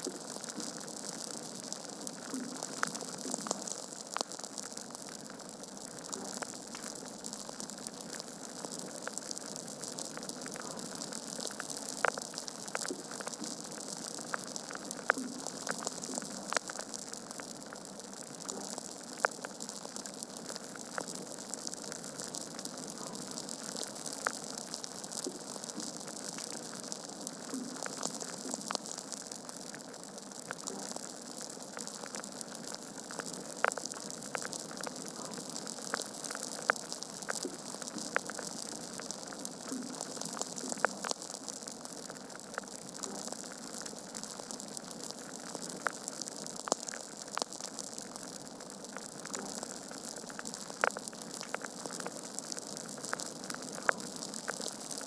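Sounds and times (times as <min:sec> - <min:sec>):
fire crackles and pops: 0:00.0 - 0:55.0.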